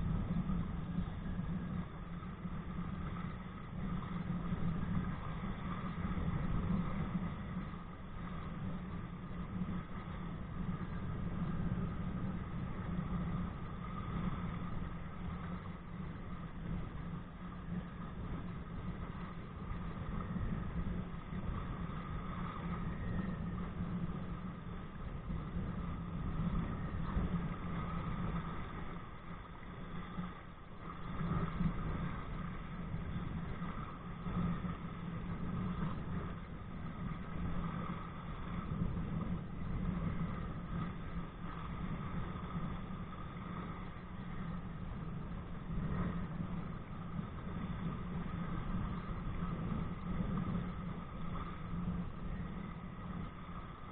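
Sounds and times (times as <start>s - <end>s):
water rushing along kayak: 0.0s - 53.9s
wind noise on microphone: 0.0s - 53.9s.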